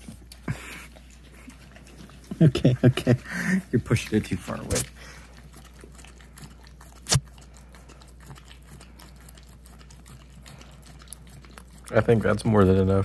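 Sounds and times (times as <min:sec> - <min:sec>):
puppy licking: 0:00.0 - 0:13.0.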